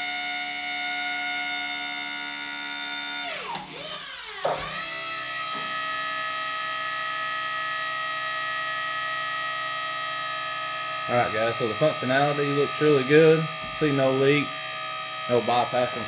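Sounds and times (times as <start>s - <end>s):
hydraulic pump whine: 0.0s - 16.0s.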